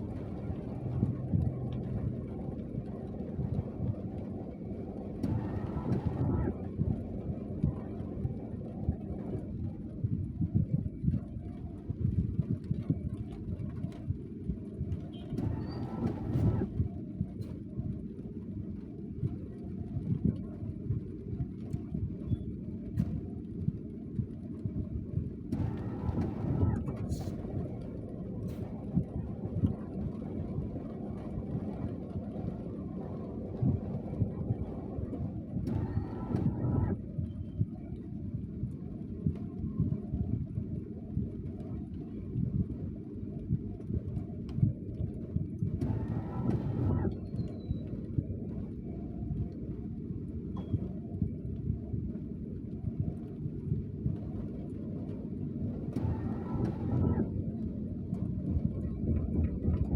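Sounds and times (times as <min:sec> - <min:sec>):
rain low rumble: 0:00.0 - 0:59.9.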